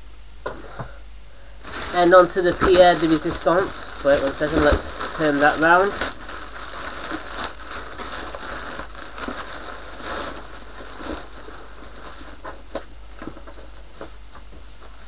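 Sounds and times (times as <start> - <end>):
paper and cardboard rustling: 1.6 - 15.0.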